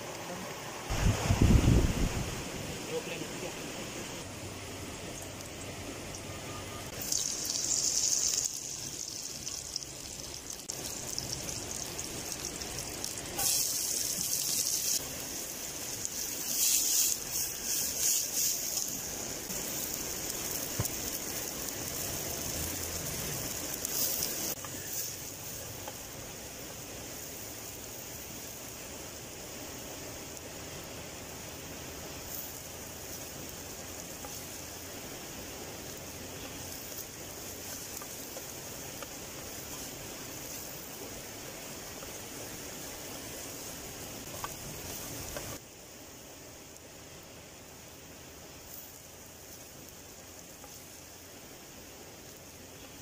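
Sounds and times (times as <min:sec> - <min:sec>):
vegetables sizzling in hot oil: 0:00.0 - 0:53.0.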